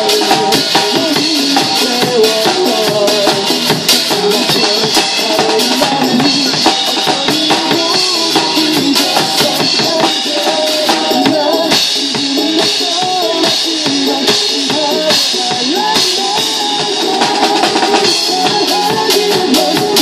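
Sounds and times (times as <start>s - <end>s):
recorded backing music: 0.0s - 20.0s
snare drum: 0.0s - 20.0s.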